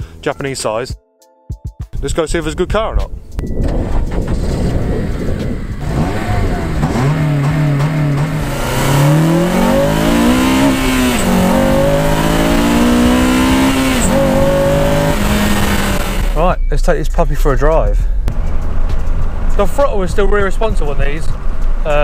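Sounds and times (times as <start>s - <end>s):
car engine accelerating: 3.3s - 22.0s.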